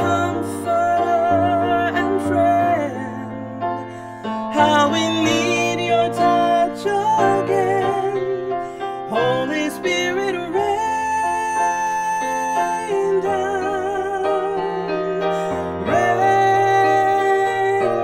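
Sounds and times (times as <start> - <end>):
piano accompaniment: 0.0 - 18.0
woman singing: 0.0 - 18.0.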